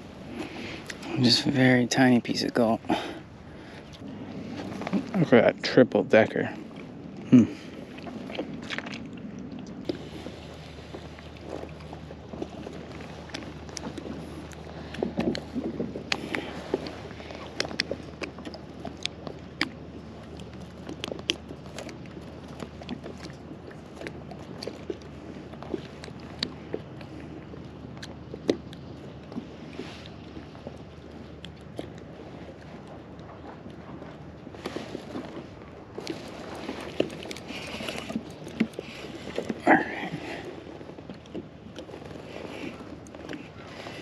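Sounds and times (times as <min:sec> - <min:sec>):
light wind: 0:00.0 - 0:44.0
low wash of water: 0:00.0 - 0:44.0
waves lapping against kayak hull: 0:00.0 - 0:44.0.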